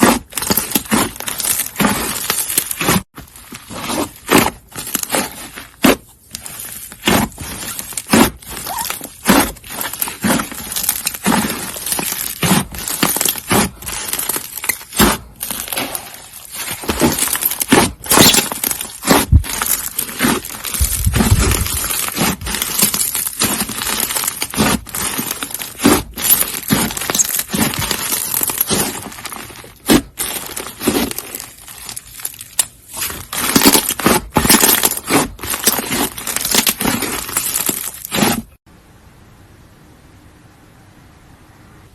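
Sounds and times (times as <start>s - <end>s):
slime crackling and popping: 0.0s - 38.6s.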